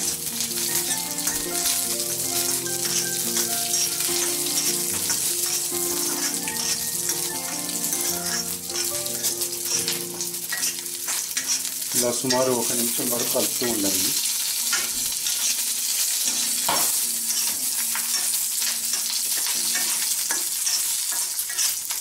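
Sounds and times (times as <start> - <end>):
steel spoon scraping pan: 0.0 - 12.5, 16.3 - 22.0
soft instrumental music: 0.0 - 21.0
hot oil sizzling: 0.0 - 22.0.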